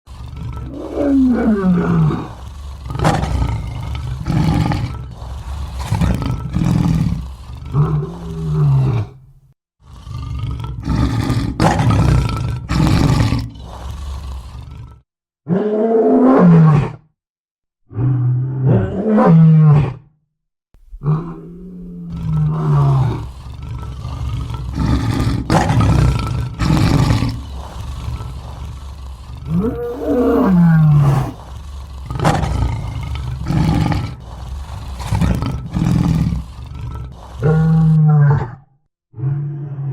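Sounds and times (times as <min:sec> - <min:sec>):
lion roaring: 0:00.0 - 0:17.0, 0:20.8 - 0:39.9.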